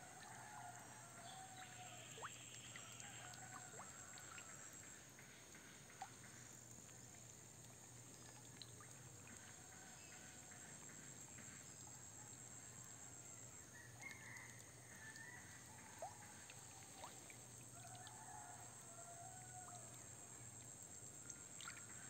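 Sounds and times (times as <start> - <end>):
faint background hiss: 0.0 - 22.0.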